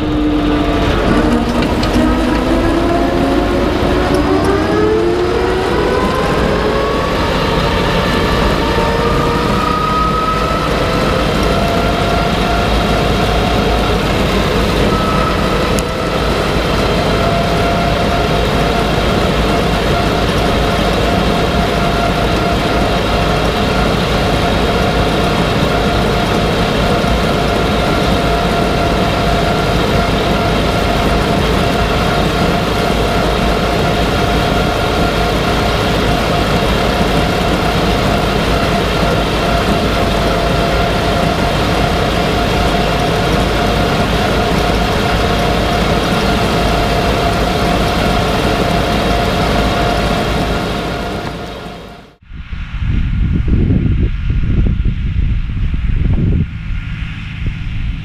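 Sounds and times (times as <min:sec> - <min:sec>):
mower drive whine: 0:00.0 - 0:52.5
tractor engine drone: 0:00.0 - 0:58.0.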